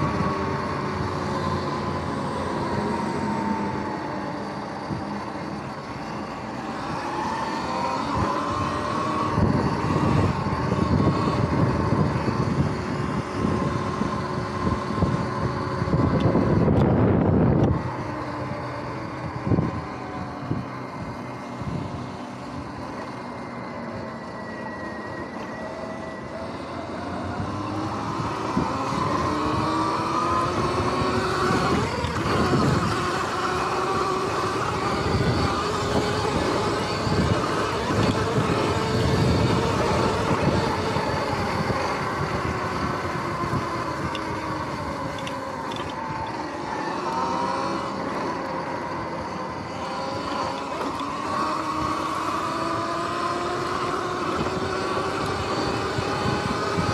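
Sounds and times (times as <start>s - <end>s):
electric motor whine: 0.0s - 56.9s.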